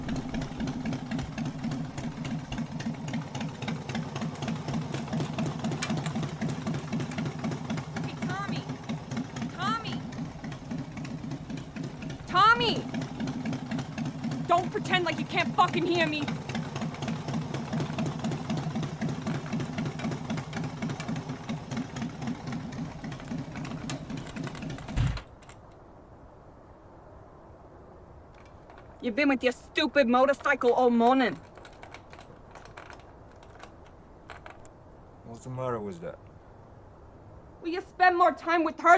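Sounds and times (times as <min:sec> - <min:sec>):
motorcycle engine idling: 0:00.0 - 0:25.7, 0:28.4 - 0:34.7.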